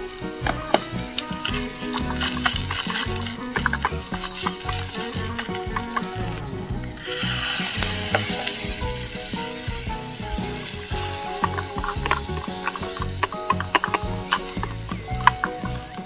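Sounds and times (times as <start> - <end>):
meat sizzling in frying pan: 0.0 - 16.0.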